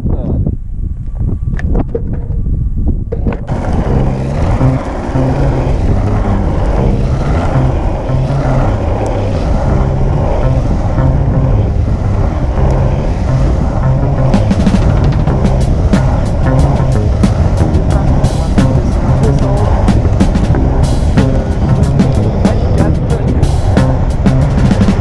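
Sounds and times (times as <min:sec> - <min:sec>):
wind noise: 0:00.0 - 0:25.0
road noise: 0:01.6 - 0:25.0
background music with bass line: 0:03.2 - 0:25.0.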